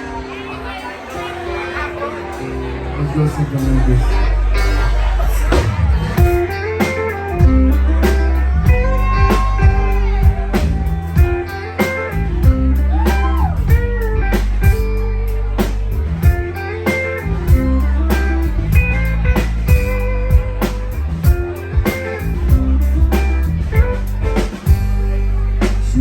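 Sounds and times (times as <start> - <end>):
electric guitar lead with bent notes: 0.0 - 26.0
bass: 1.2 - 26.0
steady drum beat: 4.5 - 26.0.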